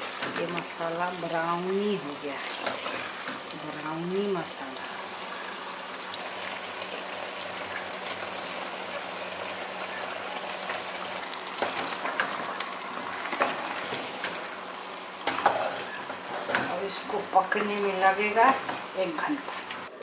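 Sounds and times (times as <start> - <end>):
chicken sizzling in pot: 0.0 - 20.0.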